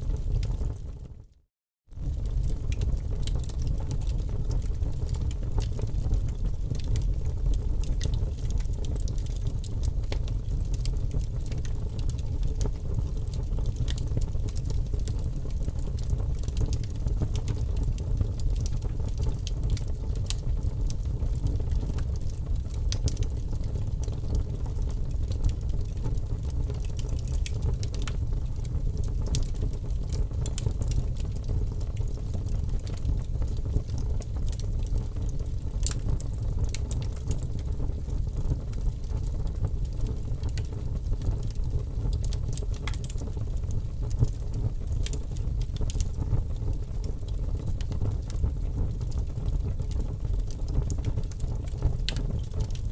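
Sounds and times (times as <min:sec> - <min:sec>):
fire crackling and popping: 0:00.1 - 0:01.1, 0:01.9 - 0:52.9
fire rumbling: 0:02.0 - 0:52.8.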